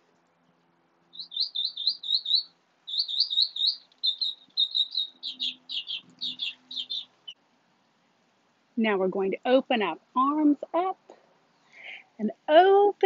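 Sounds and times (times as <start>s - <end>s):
songbird chirping: 0.0s - 12.8s.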